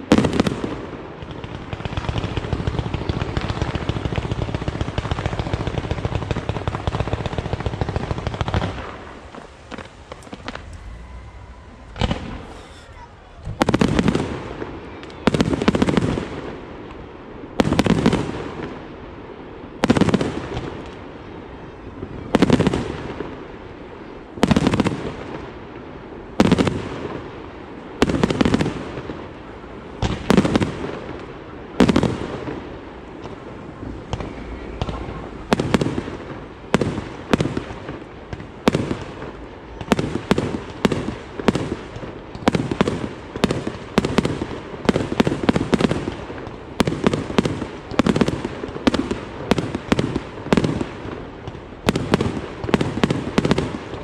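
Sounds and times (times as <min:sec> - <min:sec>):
fireworks bursting with echo: 0:00.0 - 0:54.0.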